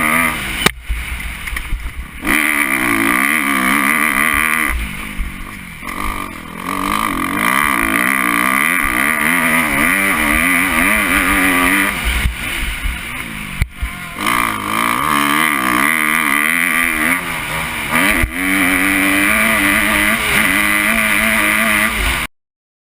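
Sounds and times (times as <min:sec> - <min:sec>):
motorcycle engine racing: 0:00.0 - 0:22.3.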